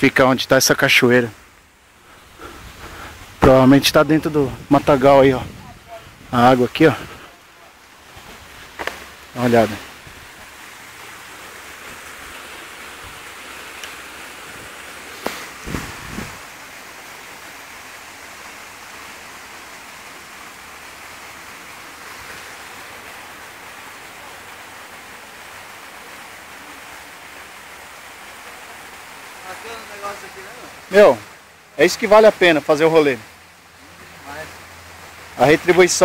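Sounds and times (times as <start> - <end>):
waterfall rushing over rocks: 0.0 - 36.0.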